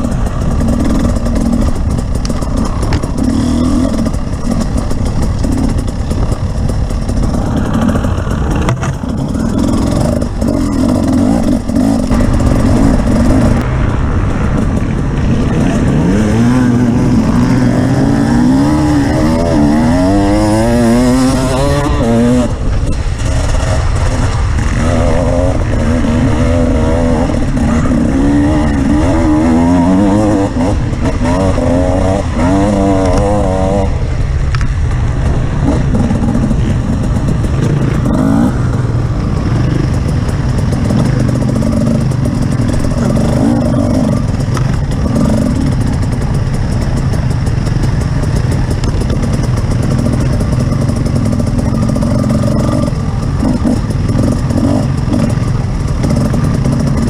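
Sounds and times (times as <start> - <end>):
off-road engine revving: 0.0 - 57.0
rough terrain rumble: 0.0 - 57.0.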